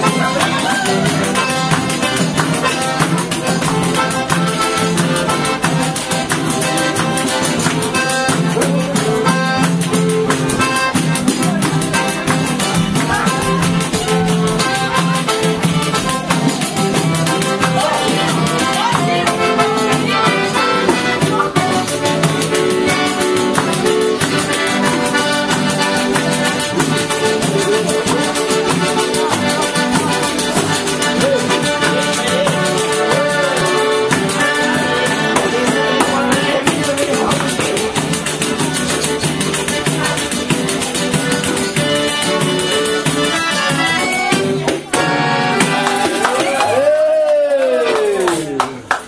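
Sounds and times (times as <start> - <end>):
piano accordion playing: 0.0 - 46.2
acoustic guitar: 0.0 - 49.0.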